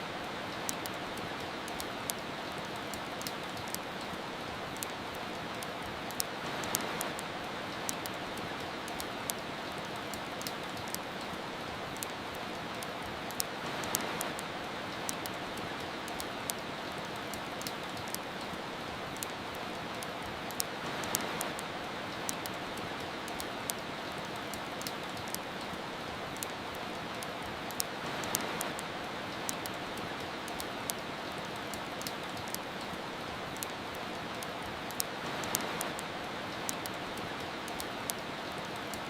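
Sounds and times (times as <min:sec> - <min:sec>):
soft rain hiss: 0:00.0 - 0:39.0
wood fire crackling and popping: 0:00.2 - 0:39.0.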